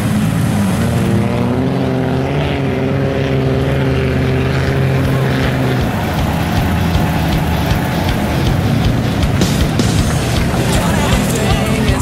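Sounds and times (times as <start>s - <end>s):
truck engine revving high: 0.0s - 12.0s.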